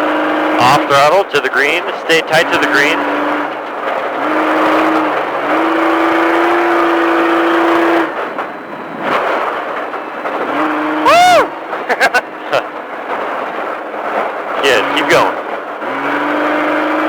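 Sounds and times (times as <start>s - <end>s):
race truck engine revving: 0.0s - 17.0s.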